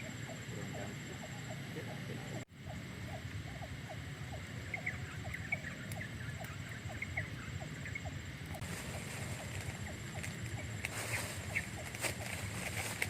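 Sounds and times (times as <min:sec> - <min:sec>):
steady low rush: 0:00.0 - 0:13.0.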